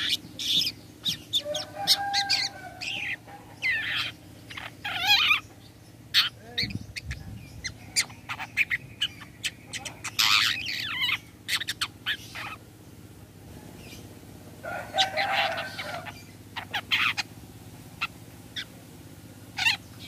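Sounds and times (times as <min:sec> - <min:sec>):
bird harsh chattering call: 0:00.0 - 0:12.7, 0:14.7 - 0:18.8, 0:19.5 - 0:20.0.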